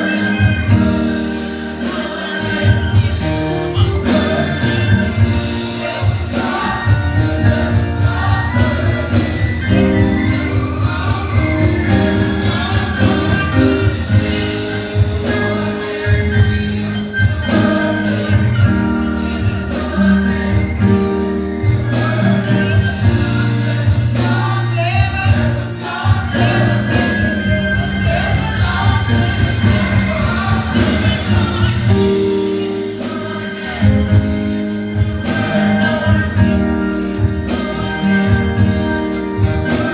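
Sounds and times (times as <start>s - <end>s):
gospel choir singing: 0.0s - 39.9s
steady bass: 0.0s - 39.9s.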